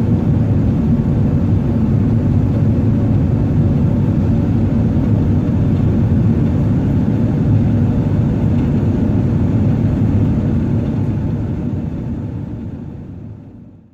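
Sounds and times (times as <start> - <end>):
airliner cabin engine rumble: 0.0 - 13.9.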